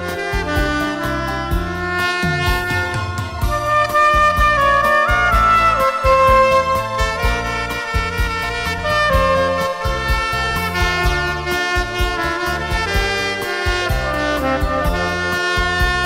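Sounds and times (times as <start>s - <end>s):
backing track with drum beat: 0.0s - 16.0s
soprano saxophone melody: 0.0s - 16.0s.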